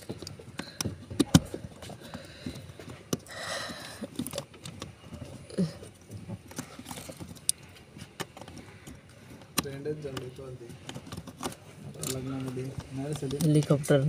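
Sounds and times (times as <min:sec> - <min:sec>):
hands clicking and knocking parts: 0:00.0 - 0:14.0.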